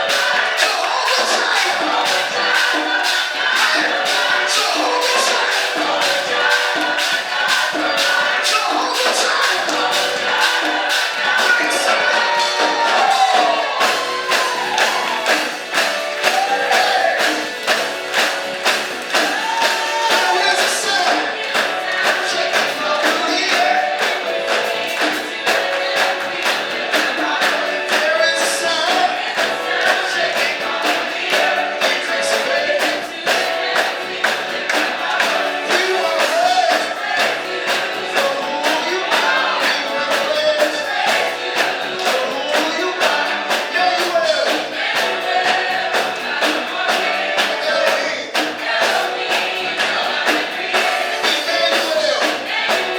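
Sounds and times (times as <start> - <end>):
percussion beat with tambourine: 0.0 - 52.9
voices singing gospel: 0.0 - 52.9.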